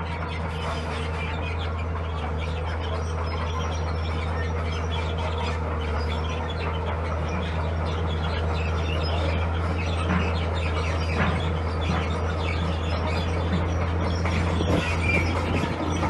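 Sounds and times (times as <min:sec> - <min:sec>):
bulldozer diesel engine: 0:00.0 - 0:16.0
high chirps and squeaks: 0:00.2 - 0:16.0.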